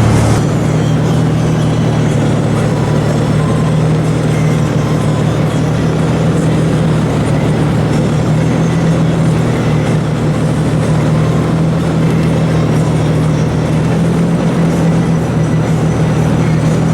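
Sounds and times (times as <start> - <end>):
car engine hum: 0.0 - 16.9.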